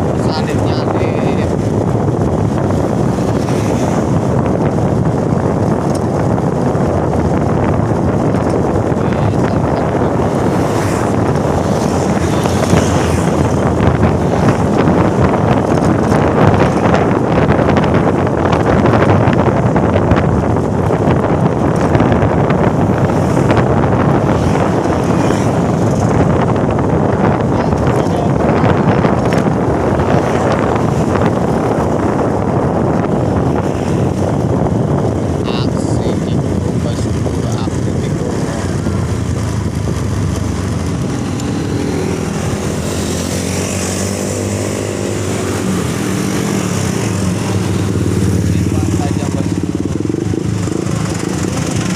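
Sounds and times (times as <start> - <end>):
moving vehicle rumble: 0.0 - 51.9
truck engine and road noise: 0.0 - 51.9
wind buffeting microphone: 0.0 - 51.9.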